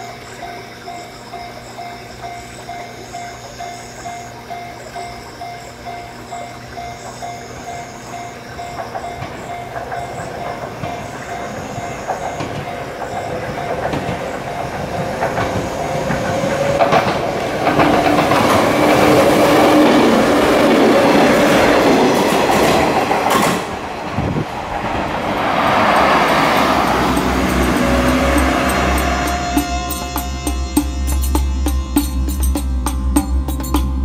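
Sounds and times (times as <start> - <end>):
level crossing bells ringing: 0.0 - 23.2, 25.3 - 34.0
train wheels clacking: 1.4 - 34.0.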